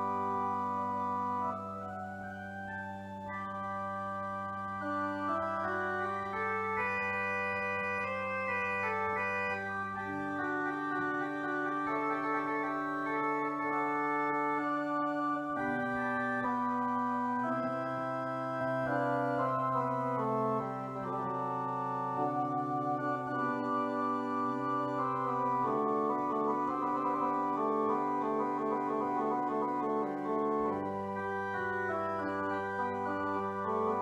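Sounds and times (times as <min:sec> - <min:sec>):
pipe organ chords: 0:00.0 - 0:34.0.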